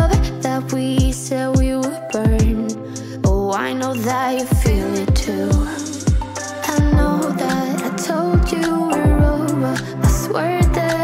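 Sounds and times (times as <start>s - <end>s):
slow pop song: 0.0s - 11.0s.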